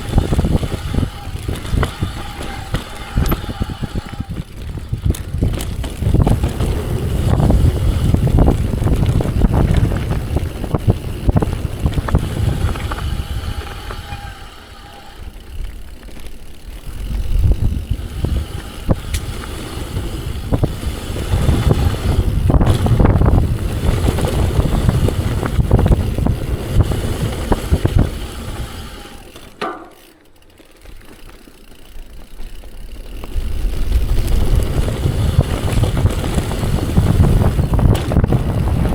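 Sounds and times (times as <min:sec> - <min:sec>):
wind buffeting microphone: 0:00.0 - 0:29.4, 0:33.0 - 0:38.9
bike tyres rumbling on dirt trail: 0:00.0 - 0:38.9.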